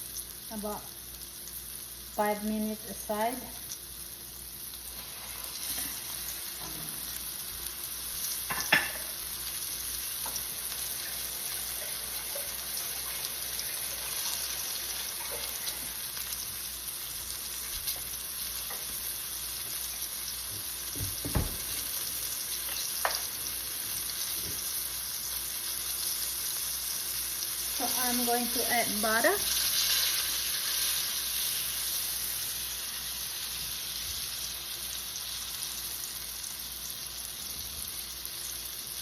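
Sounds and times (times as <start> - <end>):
chicken sizzling in a pan: 0.0 - 39.0.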